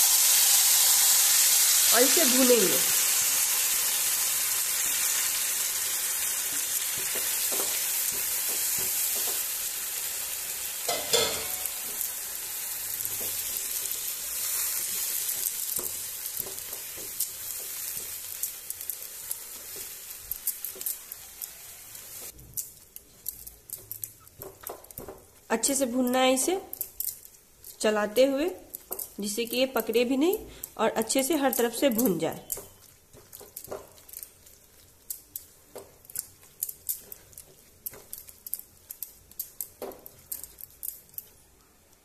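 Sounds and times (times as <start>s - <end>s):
apple sizzling in hot fat: 0.0s - 40.5s.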